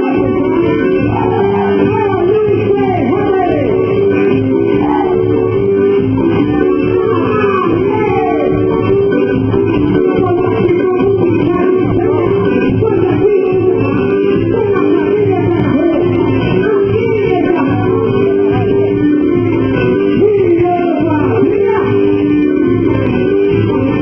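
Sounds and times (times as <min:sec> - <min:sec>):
person singing: 0:00.0 - 0:19.4, 0:20.0 - 0:24.0
plucked guitar: 0:00.0 - 0:24.0.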